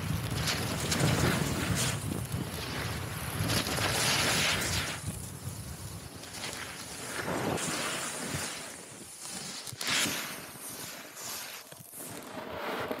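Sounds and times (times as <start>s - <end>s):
snowboard scraping on snow: 0.3s - 13.0s.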